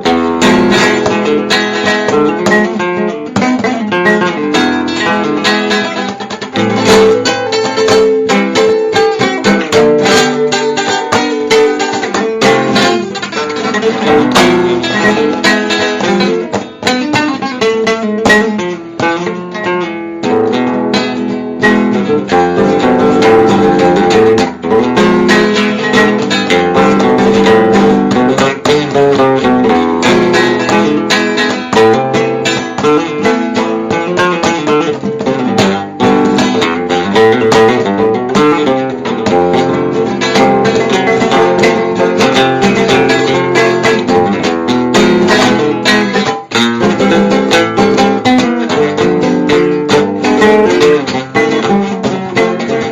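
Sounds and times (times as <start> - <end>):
acoustic guitar playing: 0.0 - 52.9.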